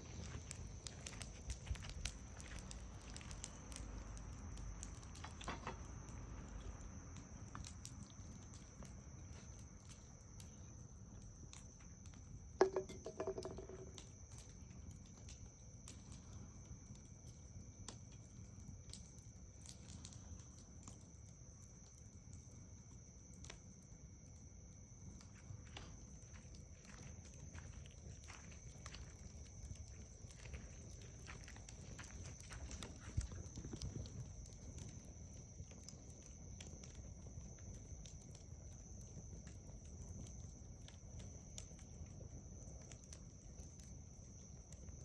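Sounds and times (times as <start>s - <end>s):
campfire crackling: 0.0s - 45.0s
insects trilling: 0.0s - 45.0s.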